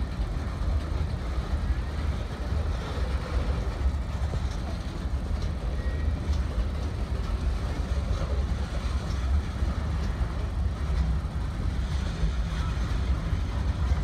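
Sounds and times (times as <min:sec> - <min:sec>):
faint rail clicks: 0:00.0 - 0:14.0
train wheels rumbling on rail: 0:00.0 - 0:14.0.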